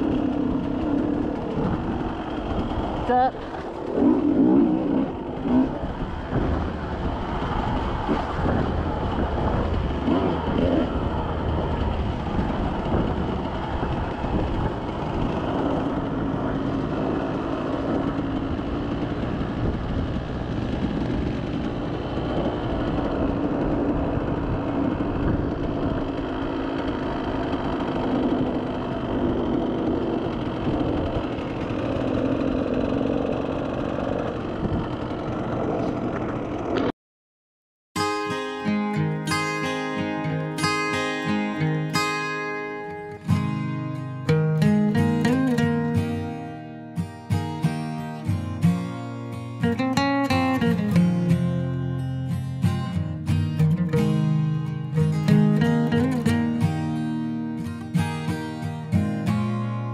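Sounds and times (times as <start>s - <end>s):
off-road vehicle engine running: 0.0s - 36.9s, 38.9s - 59.9s.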